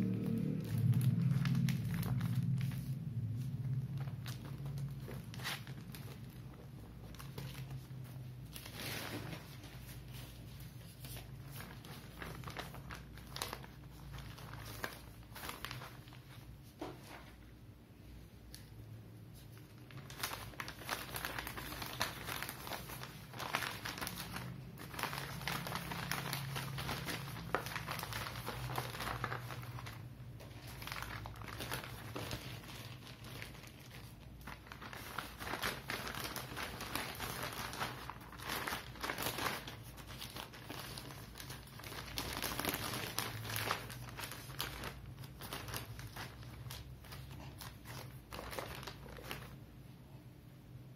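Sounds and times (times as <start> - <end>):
plastic bags crinkling: 0.0 - 17.4, 19.4 - 49.7.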